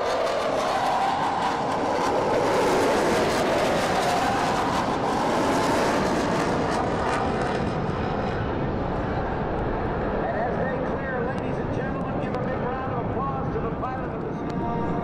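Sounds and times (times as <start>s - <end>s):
jet engines in afterburner: 0.0s - 15.0s.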